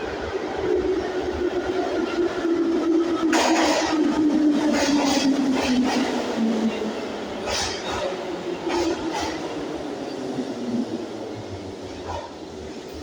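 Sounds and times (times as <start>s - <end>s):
metro train humming tone: 0.0s - 13.0s.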